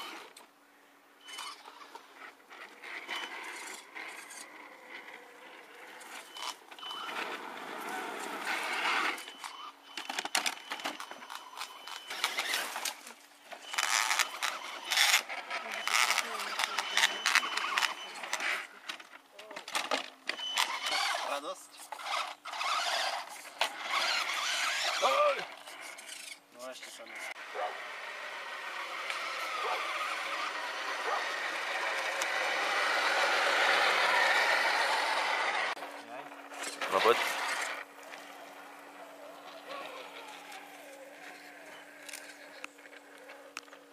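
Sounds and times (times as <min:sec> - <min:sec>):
electric toy truck motors whining: 0:01.2 - 0:19.1, 0:20.3 - 0:43.9
tyres scrabbling in loose dirt: 0:01.4 - 0:43.9.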